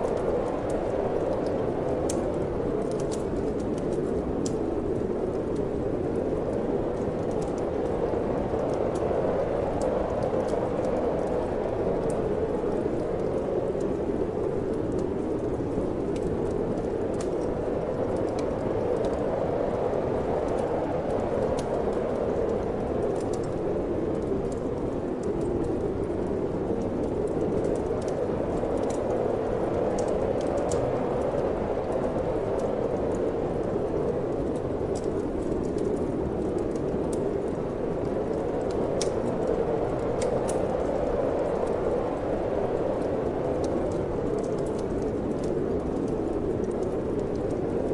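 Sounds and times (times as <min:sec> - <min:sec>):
fire crackling and popping: 0:00.0 - 0:47.9
wind blowing: 0:00.0 - 0:47.9.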